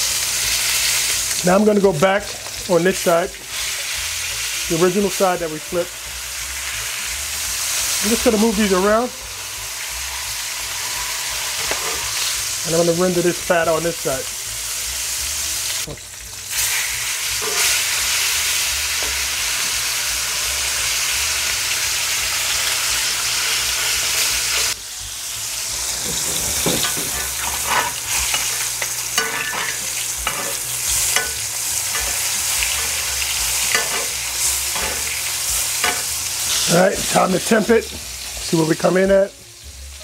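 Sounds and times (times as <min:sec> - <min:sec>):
steaks sizzling in a pan: 0:00.0 - 0:40.0.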